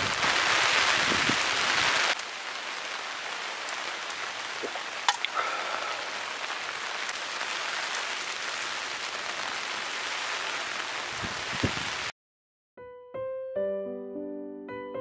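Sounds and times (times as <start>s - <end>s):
heavy rain falling: 0.0s - 12.1s.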